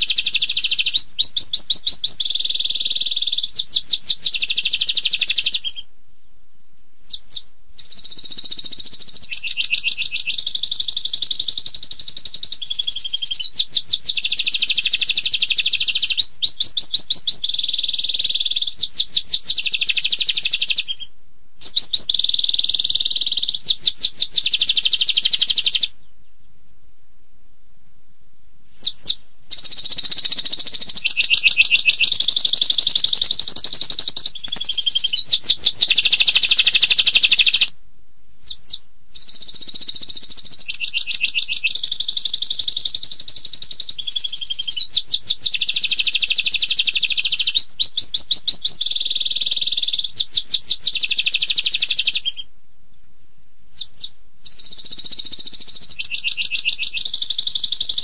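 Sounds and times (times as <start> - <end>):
canary singing trilled phrases: 0.0 - 5.9, 6.7 - 26.4, 28.7 - 37.8, 38.4 - 52.5, 53.7 - 58.0.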